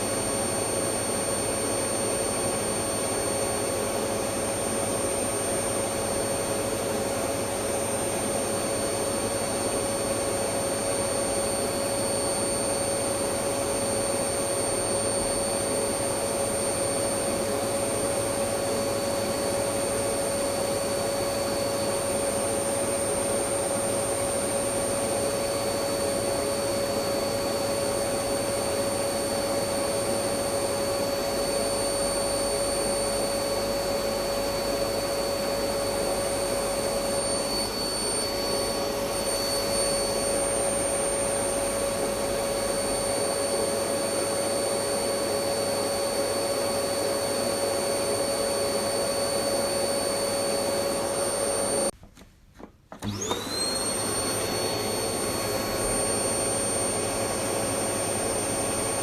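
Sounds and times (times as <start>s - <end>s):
vacuum cleaner motor whining: 0.0s - 52.0s, 52.9s - 59.0s.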